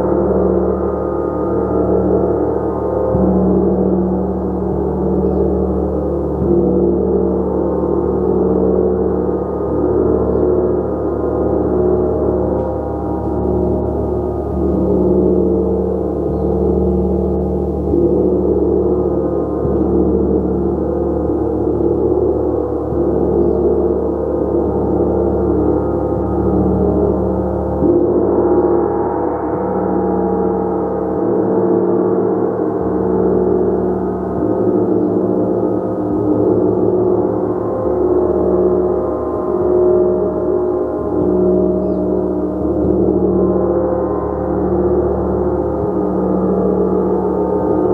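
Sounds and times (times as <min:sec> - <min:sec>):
gong tones: 0:00.0 - 0:47.9.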